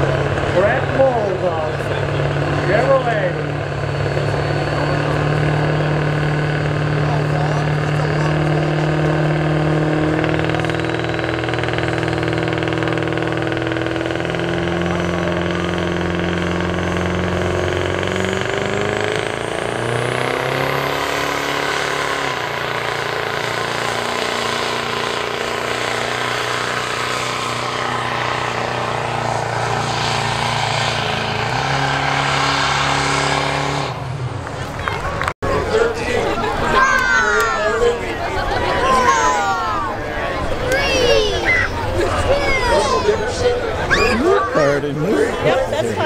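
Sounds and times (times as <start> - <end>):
diesel truck engine: 0.0 - 46.0.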